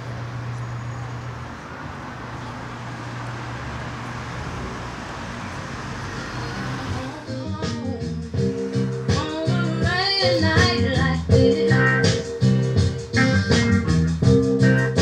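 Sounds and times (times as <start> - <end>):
engine rumble: 0.0 - 15.0
road noise: 0.0 - 15.0.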